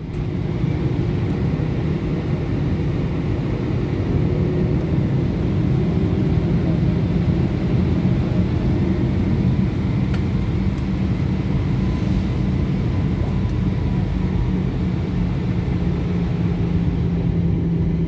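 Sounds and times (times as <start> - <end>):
airplane cabin engine drone: 0.0 - 18.0.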